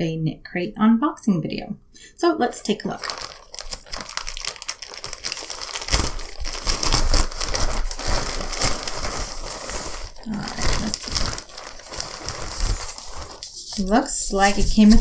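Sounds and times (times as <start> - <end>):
plastic mailer crinkling and tearing: 2.6 - 15.0.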